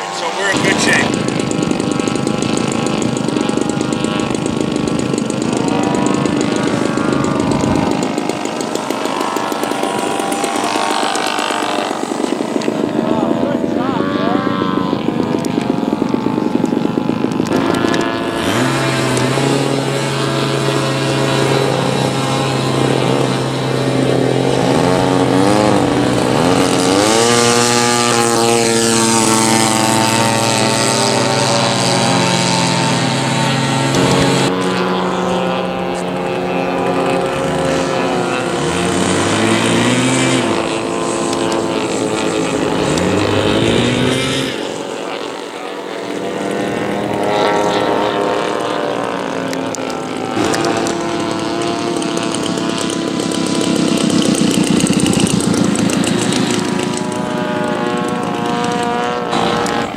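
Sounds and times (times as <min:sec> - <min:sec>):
model airplane engine droning: 0:00.0 - 0:59.9
model airplanes passing: 0:00.0 - 0:59.9.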